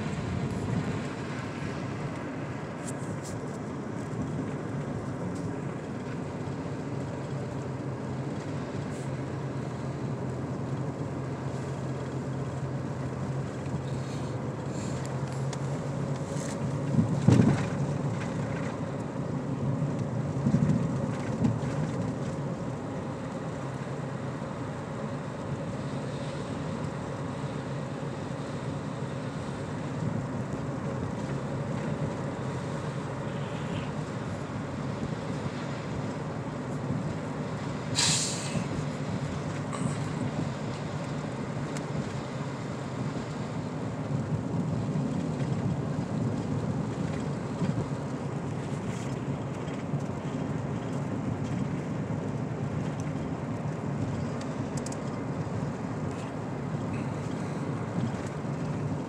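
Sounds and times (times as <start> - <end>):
car engine and tyres droning: 0.0 - 59.0.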